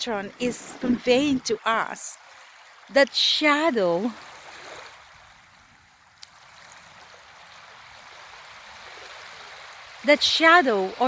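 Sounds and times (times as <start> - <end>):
water lapping on shoreline: 0.0 - 11.0.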